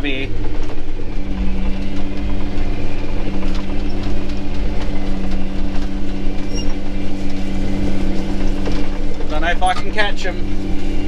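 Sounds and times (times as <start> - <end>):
engine droning under load: 0.0 - 11.0
knocks and rattles: 0.0 - 11.0.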